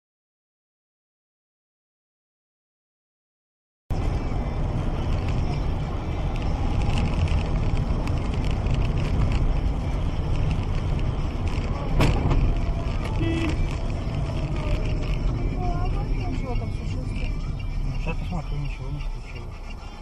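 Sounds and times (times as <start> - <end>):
car road and engine noise: 3.9 - 20.0.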